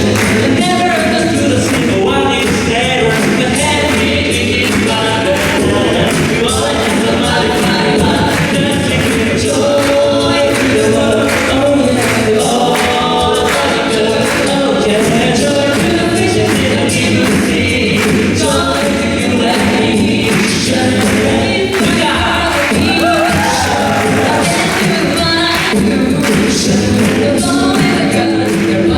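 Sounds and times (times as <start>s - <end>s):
group singing in harmony: 0.0s - 28.9s
vocal percussion beat: 0.0s - 28.9s.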